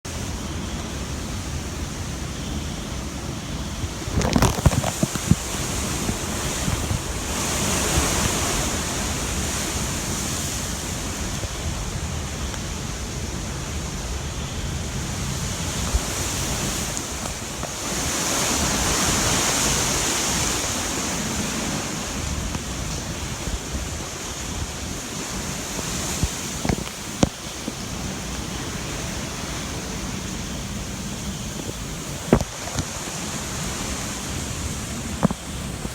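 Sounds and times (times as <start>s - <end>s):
wind rushing and gusting: 0.0s - 35.9s
wind buffeting microphone: 0.1s - 35.9s.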